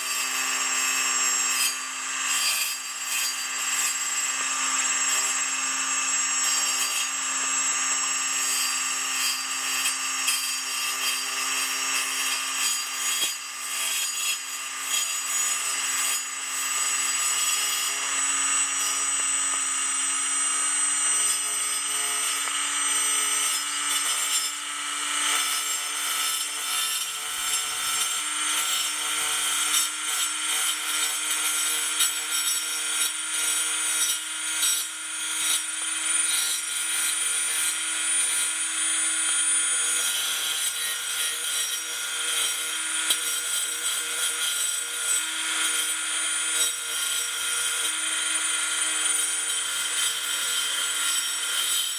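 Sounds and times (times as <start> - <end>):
saw blade rasping in wood: 0.0 - 51.9
table saw motor whine: 0.0 - 51.9.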